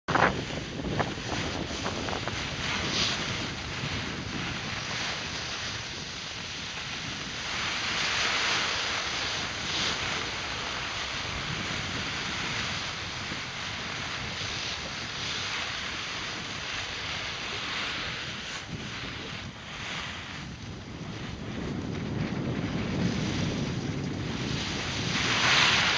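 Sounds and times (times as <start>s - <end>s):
skis hissing over snow: 0.1s - 25.9s
wind on microphone: 0.1s - 25.9s.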